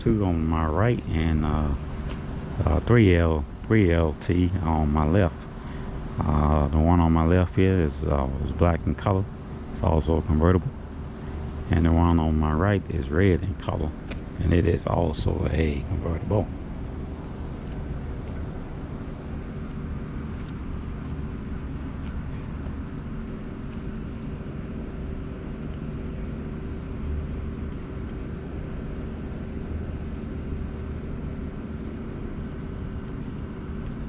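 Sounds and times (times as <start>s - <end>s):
faint even hum: 0.0s - 34.0s
low outdoor rumble: 0.0s - 34.0s.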